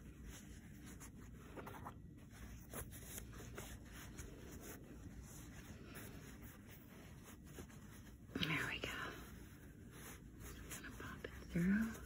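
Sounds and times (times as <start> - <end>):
fabric rustling and rubbing: 0.0 - 12.0
soft scrapes: 0.0 - 12.0.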